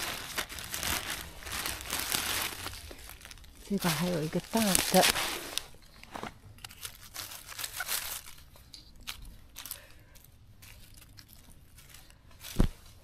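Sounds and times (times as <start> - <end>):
rustling and snapping forest litter: 0.0 - 13.0.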